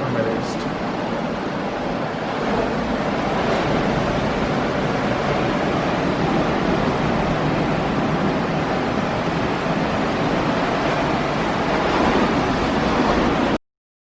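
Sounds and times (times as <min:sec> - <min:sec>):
ocean surf rushing: 0:00.0 - 0:13.6
wind buffeting microphone: 0:00.0 - 0:13.6.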